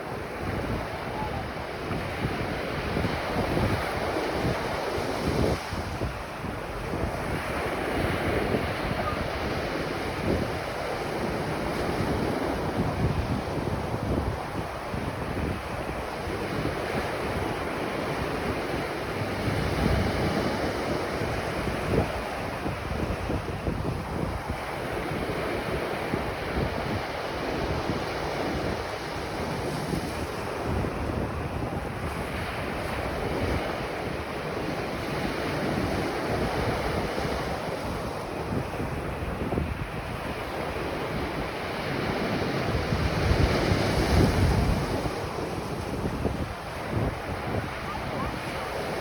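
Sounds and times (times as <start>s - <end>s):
waves breaking on a beach: 0.0s - 49.0s
wind buffeting microphone: 0.0s - 49.0s.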